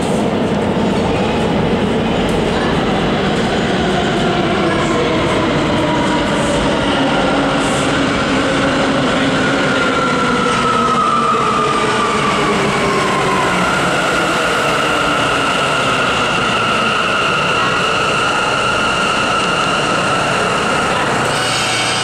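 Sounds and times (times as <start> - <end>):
subway train drive whine: 0.0 - 22.0.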